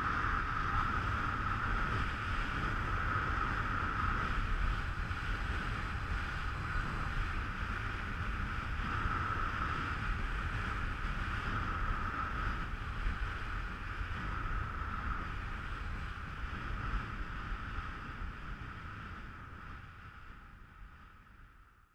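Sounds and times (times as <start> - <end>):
wind buffeting microphone: 0.0 - 21.6.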